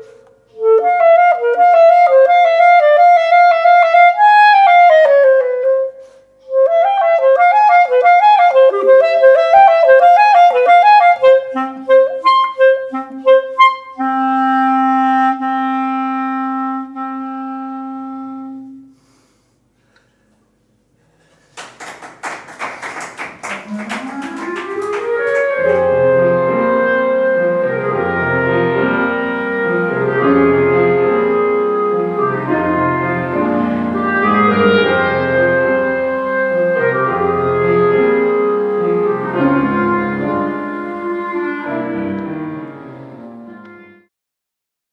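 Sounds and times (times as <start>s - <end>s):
piano accompaniment: 0.0s - 16.0s, 21.8s - 44.1s
clarinet playing: 0.0s - 19.1s, 23.1s - 44.1s.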